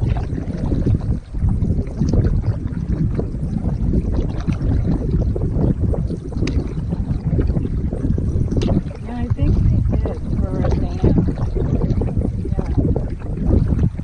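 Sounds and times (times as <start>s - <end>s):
waves splashing against canoe: 0.0s - 14.0s
wind buffeting microphone: 0.0s - 14.0s.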